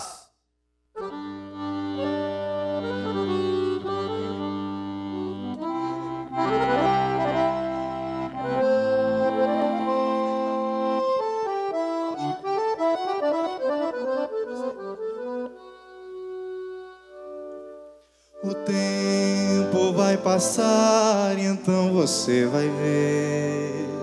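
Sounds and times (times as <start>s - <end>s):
accordion playing: 1.0s - 24.0s.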